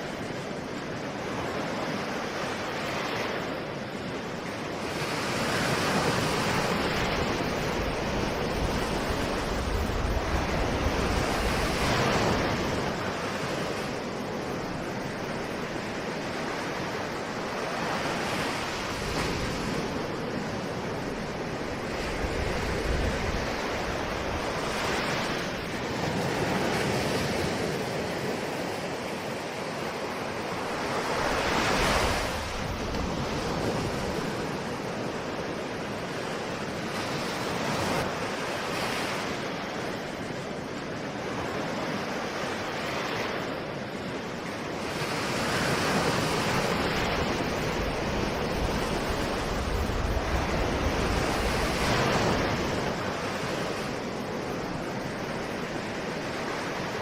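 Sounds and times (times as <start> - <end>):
ocean waves breaking on shore: 0.0 - 57.0
wind noise on microphone: 0.0 - 57.0.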